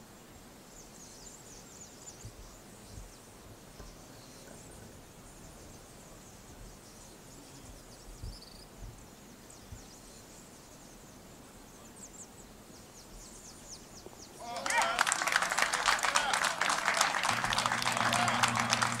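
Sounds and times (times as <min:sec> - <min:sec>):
steady low hiss: 0:00.0 - 0:19.0
birds chirping: 0:00.7 - 0:19.0.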